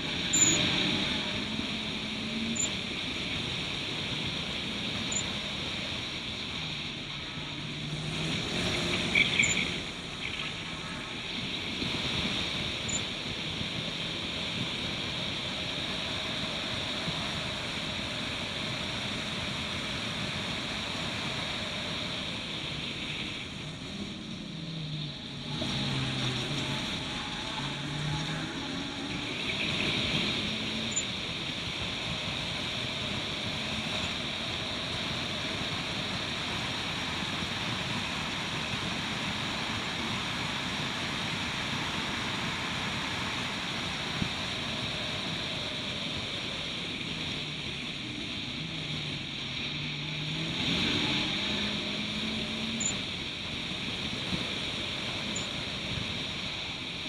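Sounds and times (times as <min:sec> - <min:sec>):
race car engine: 0:00.0 - 0:57.0
wind and road noise: 0:00.0 - 0:57.0.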